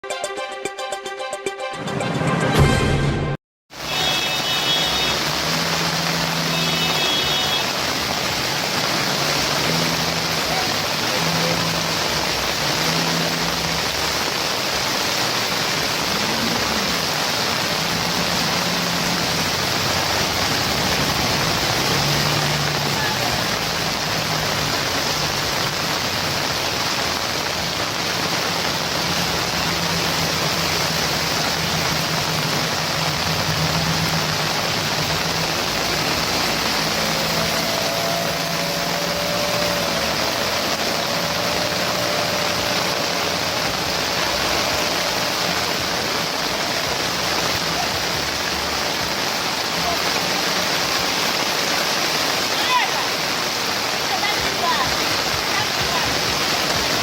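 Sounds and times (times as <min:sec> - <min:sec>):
loud rushing noise: 0:02.0 - 0:57.0.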